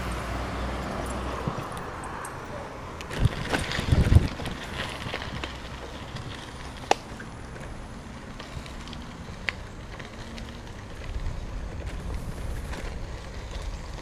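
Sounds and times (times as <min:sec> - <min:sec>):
bicycle tyres rolling on gravel: 0:00.4 - 0:14.0.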